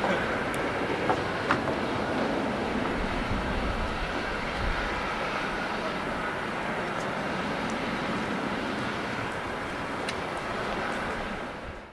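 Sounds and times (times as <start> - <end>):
jet engine climbing: 0.0 - 11.9.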